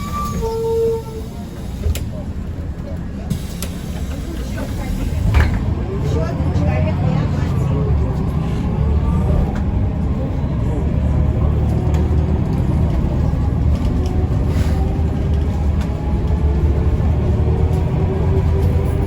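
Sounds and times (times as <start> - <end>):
bus engine rumble: 0.0 - 19.0
road noise: 0.0 - 19.0.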